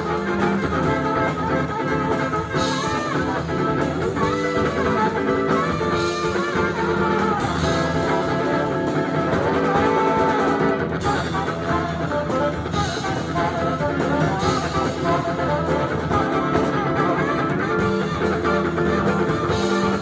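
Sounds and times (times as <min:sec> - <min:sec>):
electric guitar: 0:00.0 - 0:20.0
funk band playing: 0:00.0 - 0:20.0.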